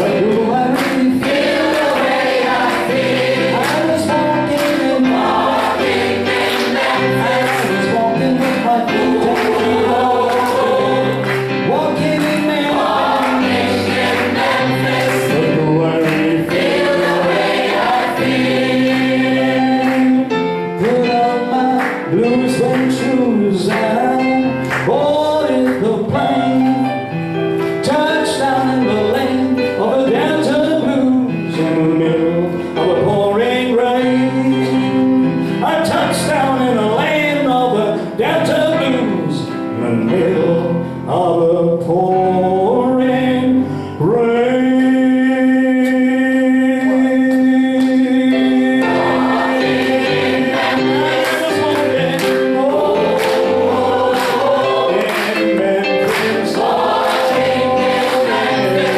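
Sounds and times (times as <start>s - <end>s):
gospel vocal group singing: 0.0s - 27.0s, 27.7s - 58.9s.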